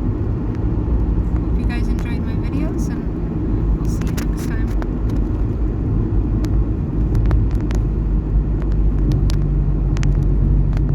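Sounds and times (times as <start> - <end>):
car rumble from inside cabin: 0.0 - 10.9.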